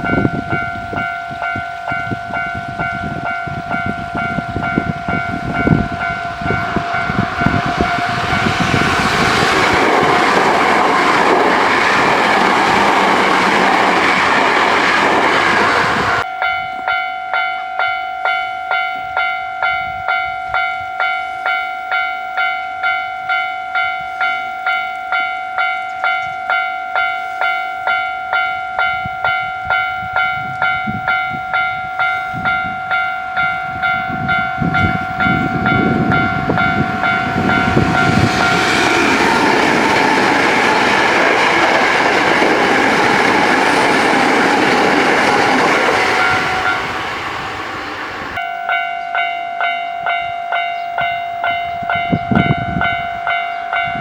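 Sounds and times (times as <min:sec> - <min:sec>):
level crossing warning bell: 0:00.0 - 0:54.0
train rolling over rails: 0:00.0 - 0:54.0.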